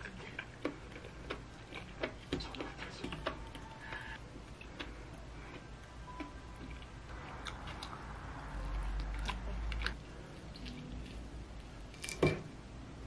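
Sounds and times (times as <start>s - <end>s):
person chewing: 0.0s - 12.1s.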